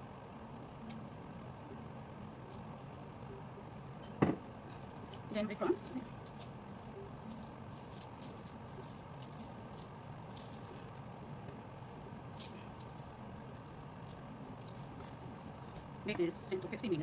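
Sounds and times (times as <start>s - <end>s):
breadcrumbs pattering on paper: 0.0s - 3.4s, 4.8s - 16.0s.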